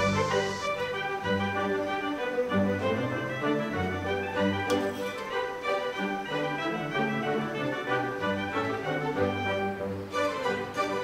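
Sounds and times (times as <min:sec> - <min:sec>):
string melody background music: 0:00.0 - 0:11.0.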